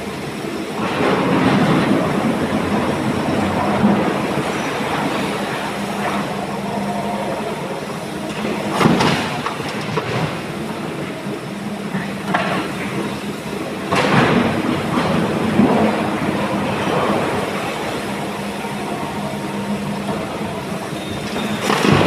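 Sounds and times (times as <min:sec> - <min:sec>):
excavator diesel engines running: 0:00.0 - 0:22.0
hydraulics whining: 0:00.0 - 0:22.0.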